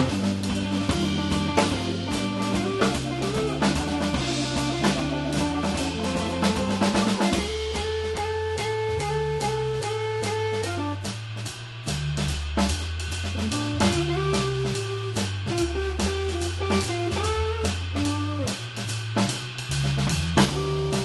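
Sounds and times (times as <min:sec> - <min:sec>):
electric guitar: 0:00.0 - 0:11.2, 0:13.2 - 0:19.4, 0:20.0 - 0:21.0
drum kit: 0:00.0 - 0:21.0
organ with bass line: 0:00.0 - 0:21.0.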